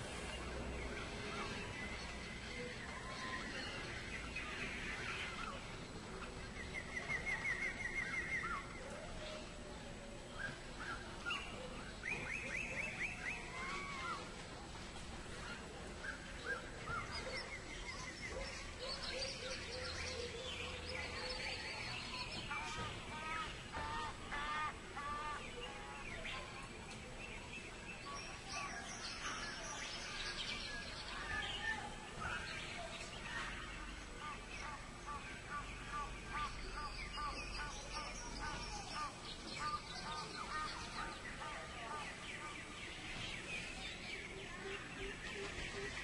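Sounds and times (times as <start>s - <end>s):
chorus of birds calling: 0.0s - 46.0s.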